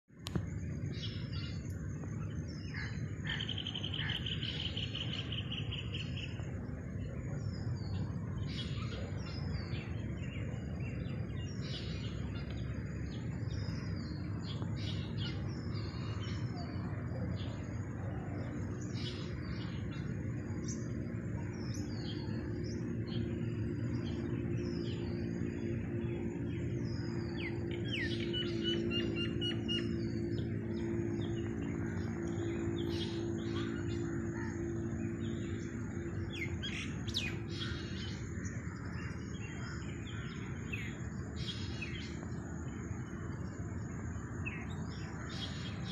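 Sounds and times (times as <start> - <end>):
low background rumble: 0.1 - 45.9
small birds chirping: 0.2 - 45.9.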